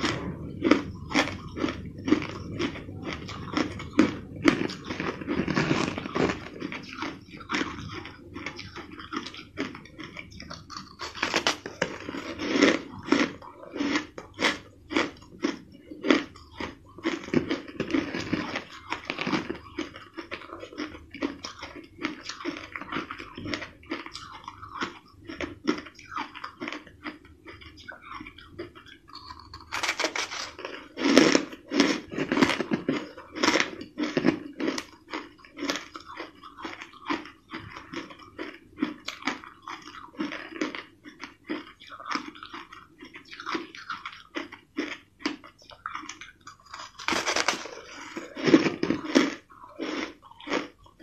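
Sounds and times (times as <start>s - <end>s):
ice being chewed and crunched: 0.0s - 51.0s.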